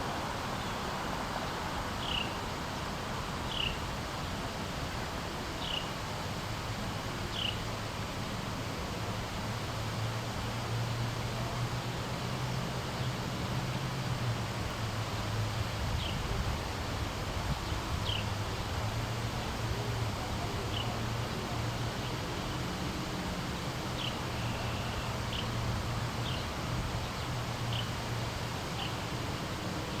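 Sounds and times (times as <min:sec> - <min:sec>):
low rumble and hiss: 0:00.0 - 0:30.0.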